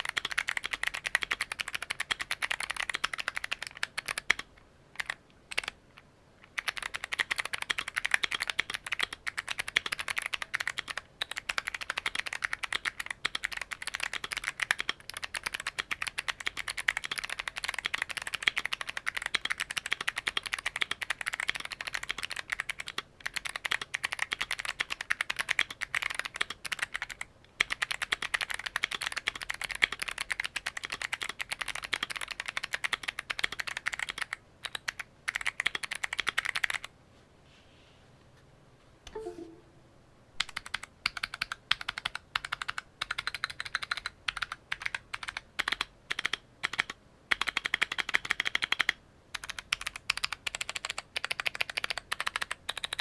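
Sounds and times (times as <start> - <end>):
clicky mechanical keyboard typing: 0.0 - 5.8, 6.4 - 36.9, 40.4 - 53.0.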